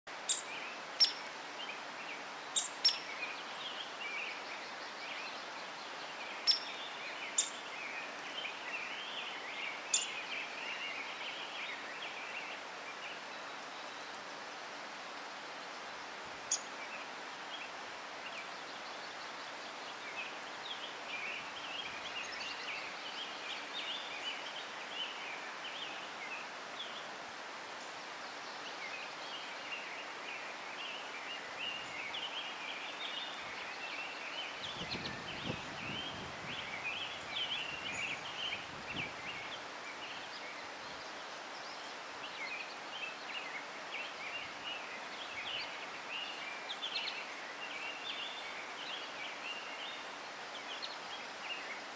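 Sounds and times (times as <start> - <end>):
outdoor hiss: 0.1 - 51.9.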